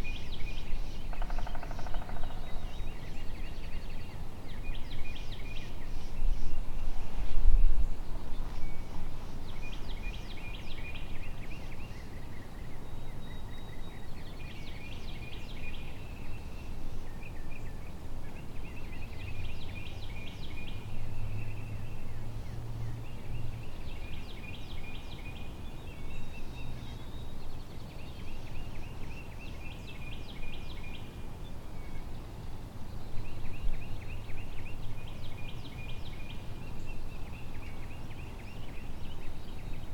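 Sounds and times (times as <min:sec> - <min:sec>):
songbird trilled song: 0:00.0 - 0:07.0, 0:07.8 - 0:39.9.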